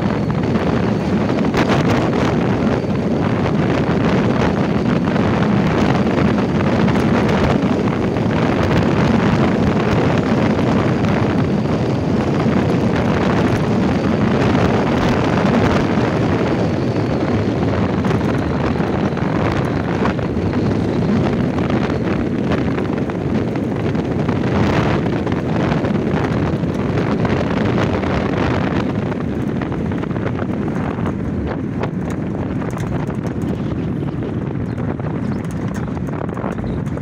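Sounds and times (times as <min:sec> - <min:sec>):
tyre and road noise: 0:00.0 - 0:37.0
wind on microphone: 0:00.0 - 0:37.0.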